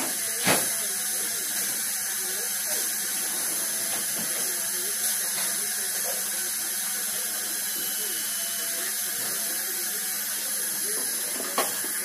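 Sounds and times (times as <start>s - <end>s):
dental drill whining: 0.0s - 12.0s.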